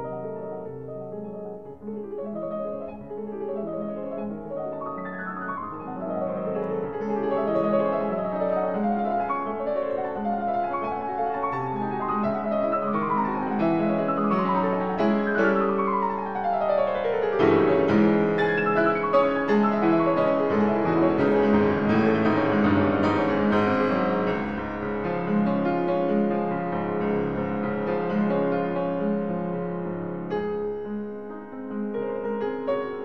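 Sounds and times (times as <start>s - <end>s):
solo piano runs: 0.0s - 33.0s.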